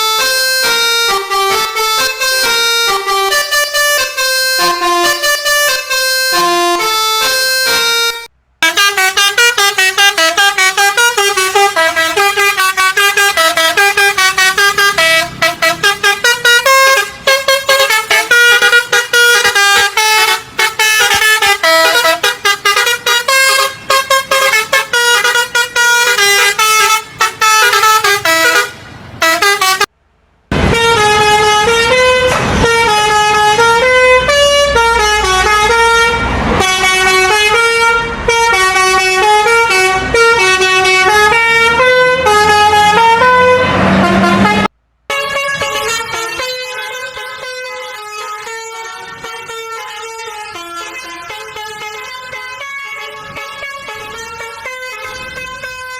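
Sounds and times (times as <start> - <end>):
multi-tone bus horn melodies: 0.0 - 55.9.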